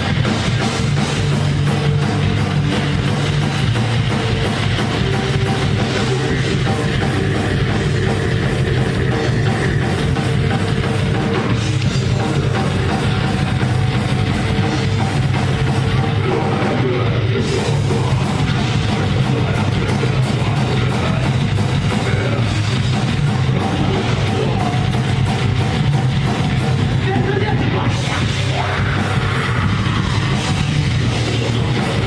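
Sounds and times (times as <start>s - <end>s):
heavy metal band playing: 0.0s - 32.0s.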